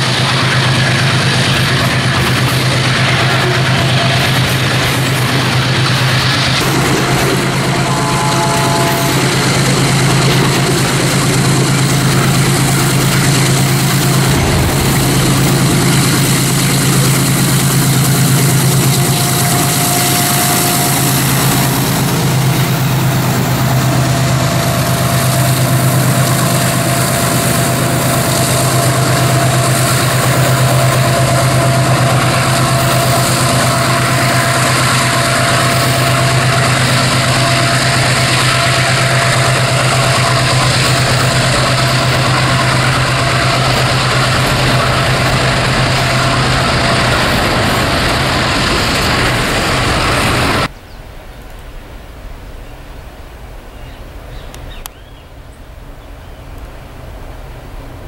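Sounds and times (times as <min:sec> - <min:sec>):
locomotive engine idling: 0:00.0 - 0:50.7.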